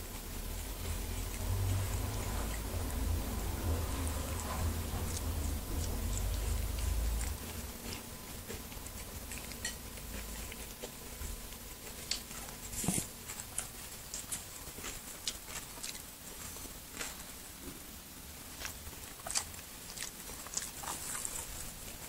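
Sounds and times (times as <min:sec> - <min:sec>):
kitten chewing cucumber: 0:00.0 - 0:22.0.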